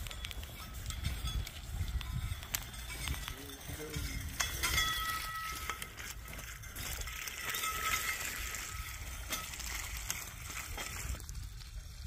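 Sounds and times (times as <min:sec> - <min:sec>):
pipe roller wheels rubbing: 0:00.0 - 0:11.3.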